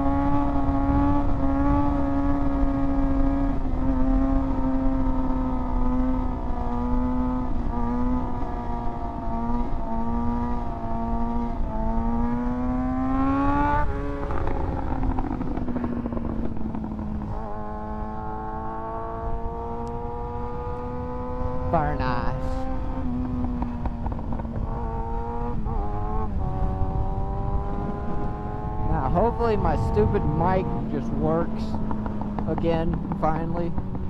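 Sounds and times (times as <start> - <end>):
motorcycle engine revving: 0.0 - 34.0
wind noise: 0.0 - 34.0.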